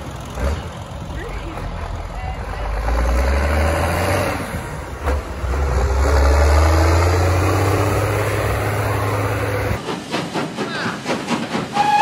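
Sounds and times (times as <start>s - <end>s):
tractor diesel engine passing: 0.0s - 9.8s.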